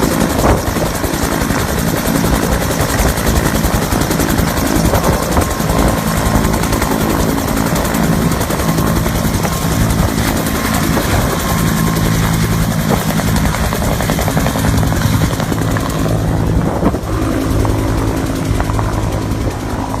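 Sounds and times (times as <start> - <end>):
helicopter rotor beating: 0.0 - 20.0.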